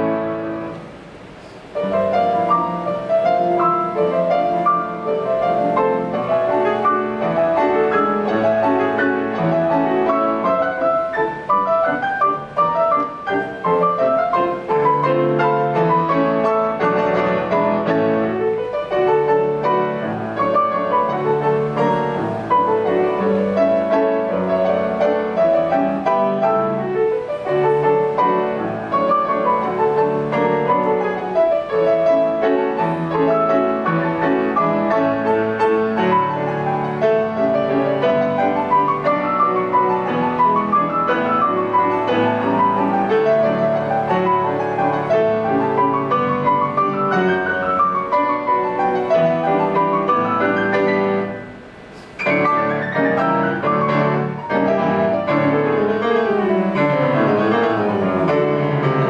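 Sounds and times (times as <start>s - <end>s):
grand piano waltz: 0.0s - 59.0s.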